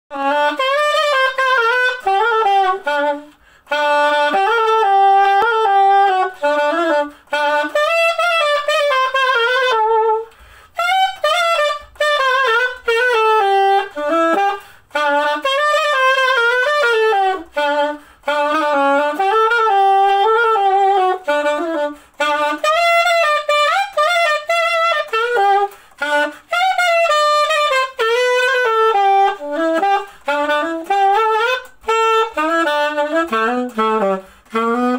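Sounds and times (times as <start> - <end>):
solo saxophone melody: 0.1 - 34.9.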